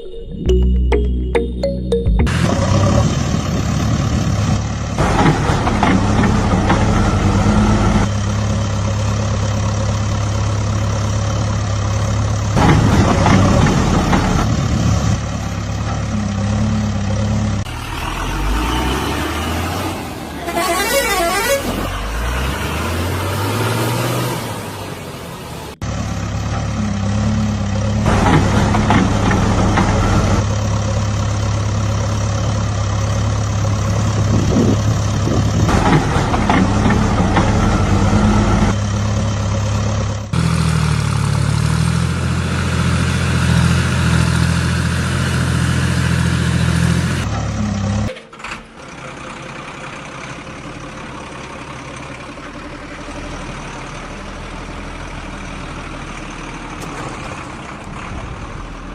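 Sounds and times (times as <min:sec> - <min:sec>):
heavy diesel machinery engines: 0:01.9 - 0:58.9.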